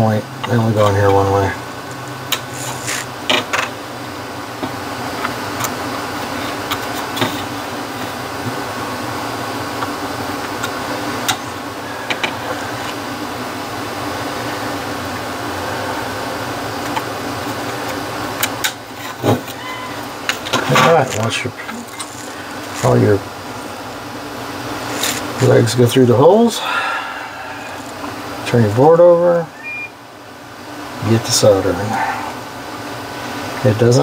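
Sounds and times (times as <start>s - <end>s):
room ventilation whirr: 0.0s - 34.0s.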